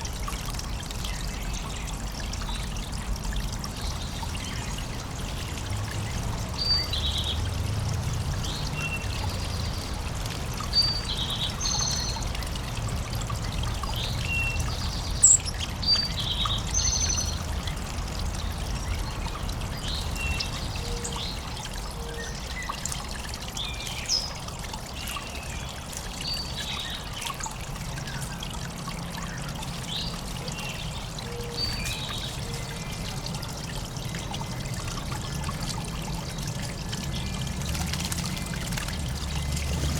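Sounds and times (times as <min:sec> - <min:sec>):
water trickling into bird bath: 0:00.0 - 0:39.9
songbirds calling: 0:01.0 - 0:12.8, 0:13.4 - 0:39.9.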